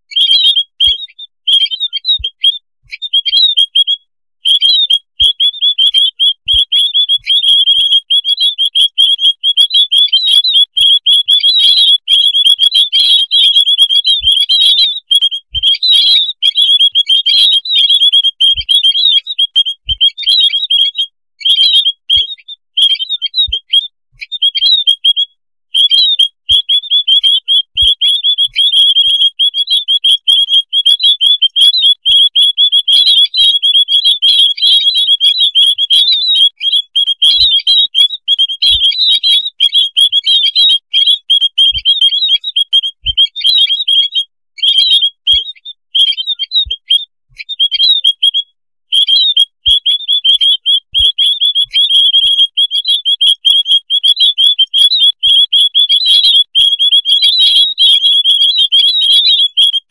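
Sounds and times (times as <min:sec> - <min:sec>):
flock of small birds chirping: 0:00.1 - 0:03.9, 0:04.5 - 0:25.2, 0:31.2 - 0:47.0, 0:47.6 - 0:59.7.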